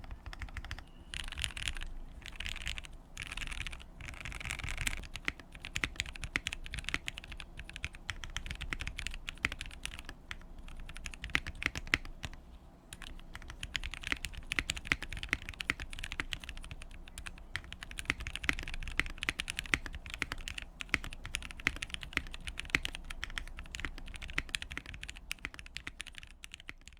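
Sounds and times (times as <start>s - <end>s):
mechanical keyboard typing: 0.0s - 26.9s.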